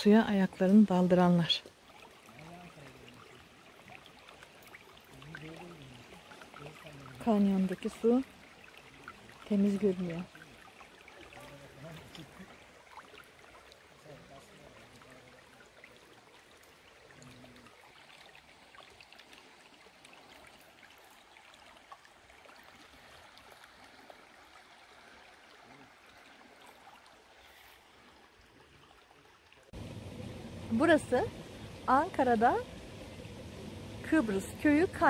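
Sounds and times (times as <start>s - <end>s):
stream trickling over stones: 0.0s - 35.0s.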